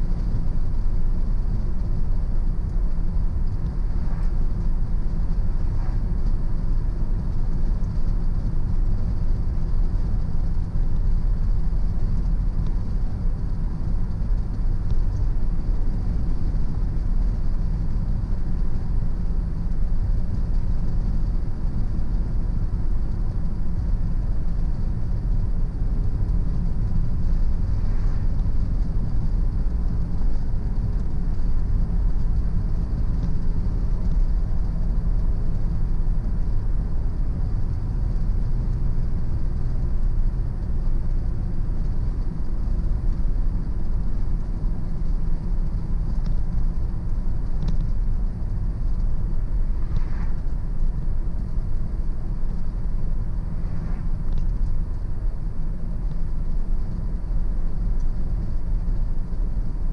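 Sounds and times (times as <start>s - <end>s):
car tyres and engine rumble: 0.0s - 59.9s.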